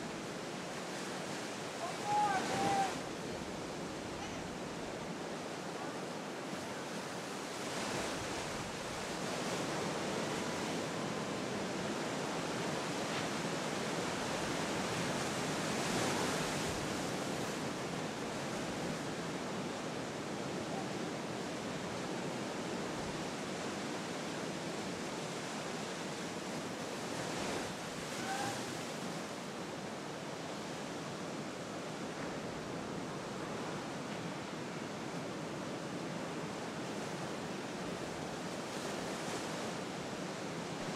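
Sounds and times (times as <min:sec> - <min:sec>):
waves breaking: 0:00.0 - 0:40.9.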